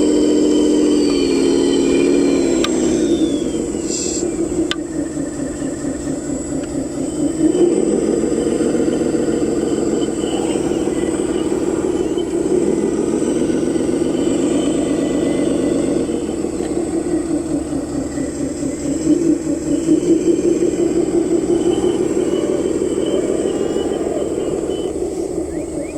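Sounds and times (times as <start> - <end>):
vehicle engine pulsing: 0.0 - 25.9.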